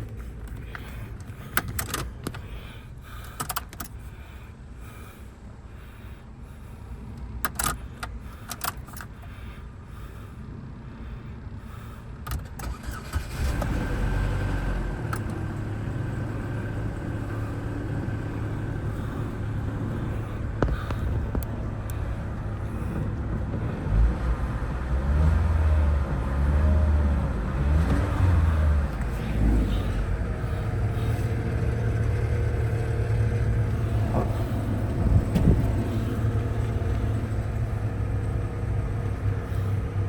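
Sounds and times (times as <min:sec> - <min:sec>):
car engine starting and idling: 0:00.0 - 0:40.0.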